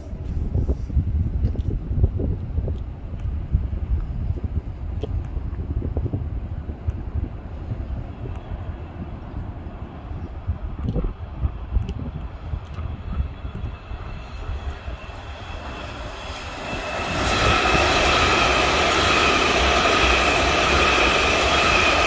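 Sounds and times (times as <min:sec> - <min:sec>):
train passing with high whine: 0:00.0 - 0:22.0.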